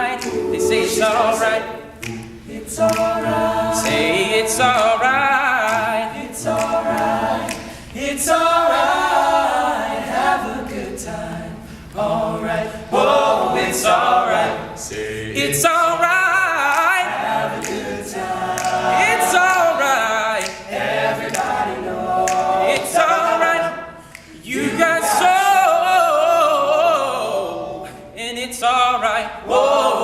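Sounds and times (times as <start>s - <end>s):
male choir singing a cappella: 0.0s - 30.0s.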